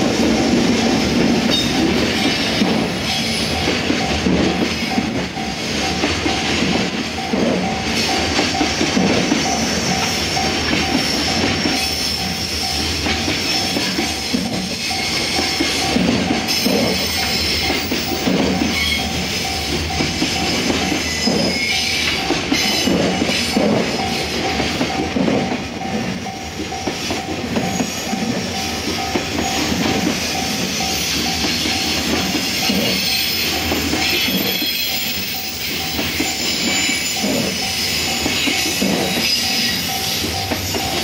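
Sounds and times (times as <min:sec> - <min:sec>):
train wheels clattering: 0:00.0 - 0:41.0.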